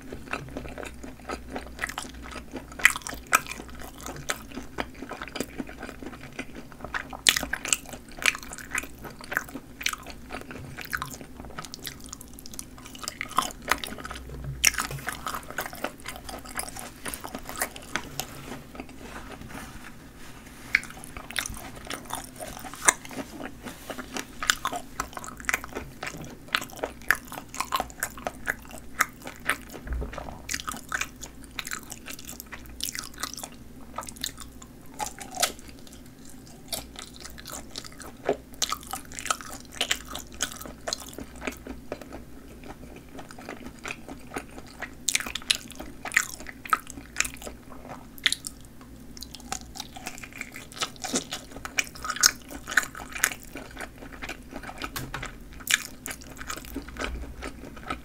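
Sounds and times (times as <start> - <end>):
chewing sausages with snapping casings: 0.0 - 19.4, 20.7 - 58.0.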